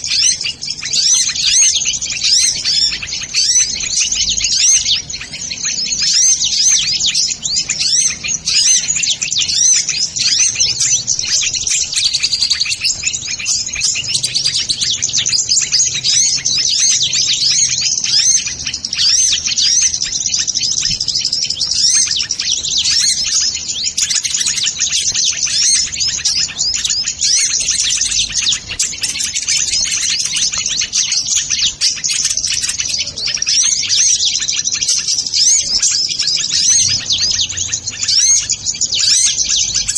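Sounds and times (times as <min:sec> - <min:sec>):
sunbirds twittering: 0:00.0 - 0:39.9.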